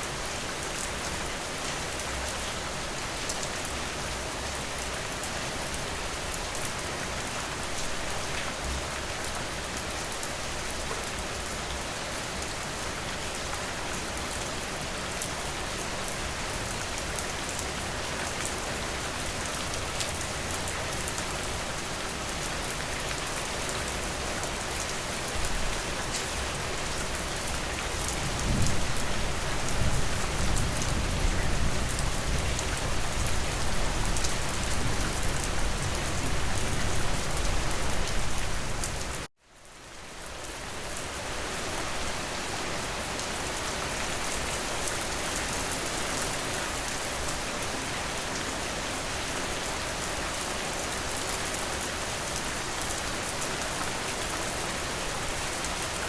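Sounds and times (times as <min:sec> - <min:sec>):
rain falling on a porch: 0:00.0 - 0:56.0.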